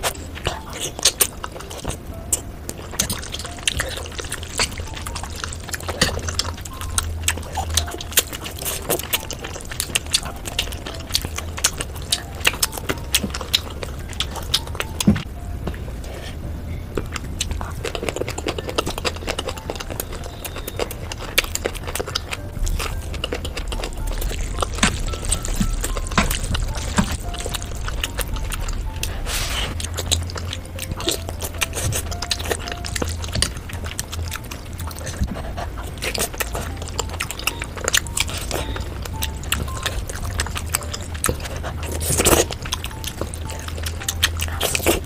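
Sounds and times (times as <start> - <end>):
person slurping and chewing noodles: 0.0 - 45.0.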